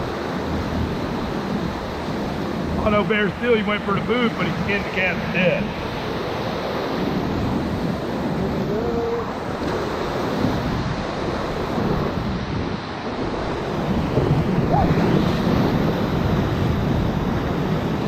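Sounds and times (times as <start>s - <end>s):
whitewater rushing: 0.0s - 18.0s
wind buffeting microphone: 0.0s - 18.0s.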